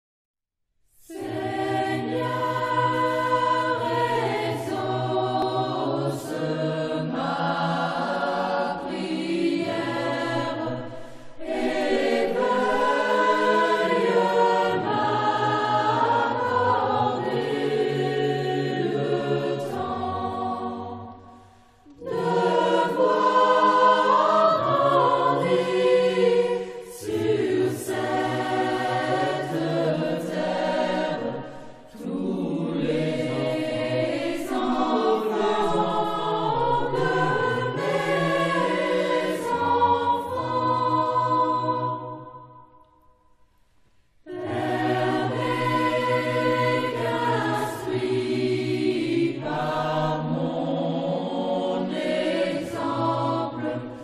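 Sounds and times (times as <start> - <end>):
choir singing slow phrases: 0.9 - 54.0.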